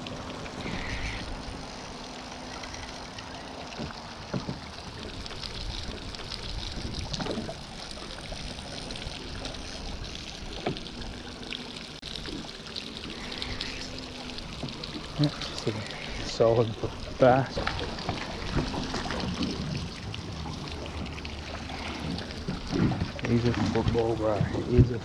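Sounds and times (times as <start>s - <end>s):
water splashing and trickling: 0.0s - 25.0s.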